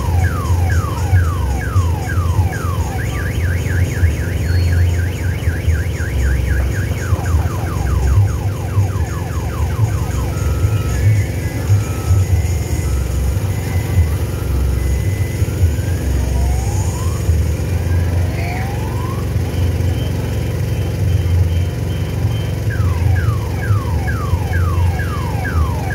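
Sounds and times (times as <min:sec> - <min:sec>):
ride cars rumbling on steel track: 0:00.0 - 0:25.9
rising electronic whistle: 0:00.0 - 0:25.9.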